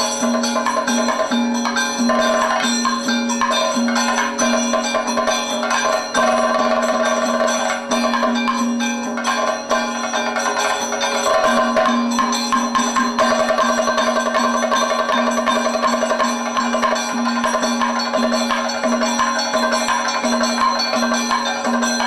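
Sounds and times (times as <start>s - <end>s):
drums beaten in dense strokes: 0.0s - 22.0s
hand cymbals ringing: 0.0s - 22.0s.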